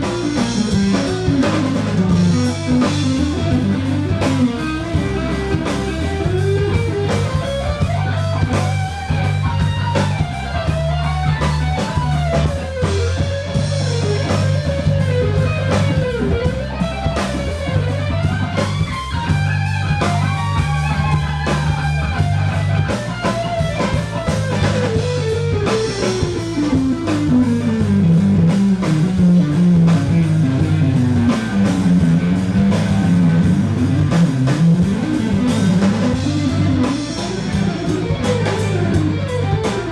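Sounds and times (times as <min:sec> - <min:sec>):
bass notes: 0:00.0 - 0:39.9
drum kit: 0:00.0 - 0:39.9
lead guitar with bent notes: 0:00.0 - 0:39.9.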